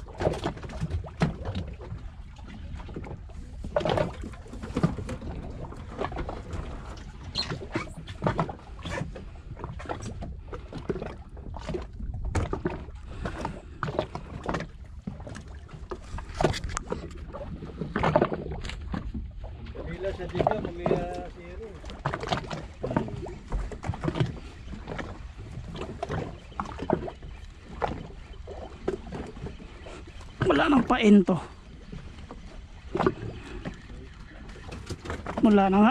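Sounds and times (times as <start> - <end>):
boat knocking and creaking: 0.0 - 35.9
water splashing against hull: 0.0 - 35.9.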